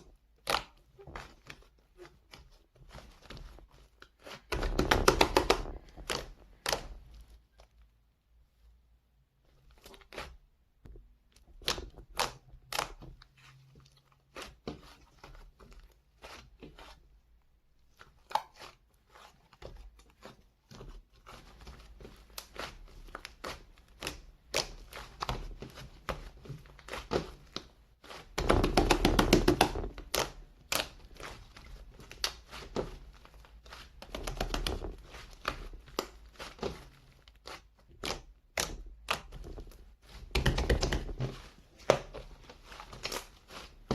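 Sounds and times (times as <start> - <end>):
slime squished by hand: 0.0 - 7.9, 9.6 - 17.0, 17.8 - 43.9.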